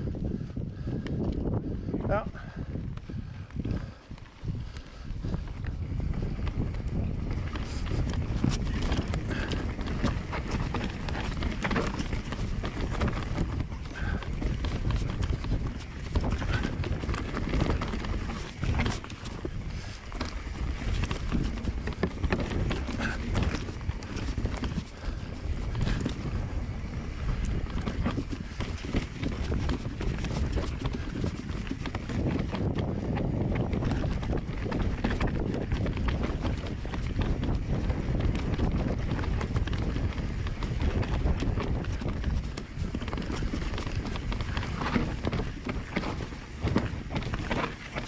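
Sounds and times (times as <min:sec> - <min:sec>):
tyres rumbling on trail: 0:00.0 - 0:48.0
wind on microphone: 0:00.0 - 0:48.0
bike frame rattling and knocking: 0:03.0 - 0:48.0.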